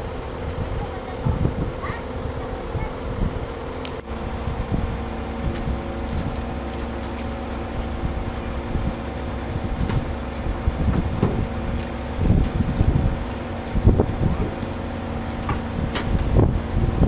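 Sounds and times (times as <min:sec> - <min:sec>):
diesel engine running under load: 0:00.0 - 0:17.0
wind buffeting microphone: 0:00.0 - 0:17.0.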